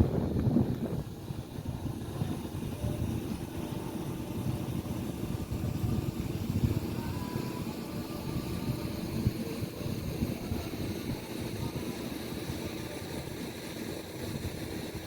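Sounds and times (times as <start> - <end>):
faint steady hum: 0.0 - 15.0
motorboat engine running: 0.0 - 15.0.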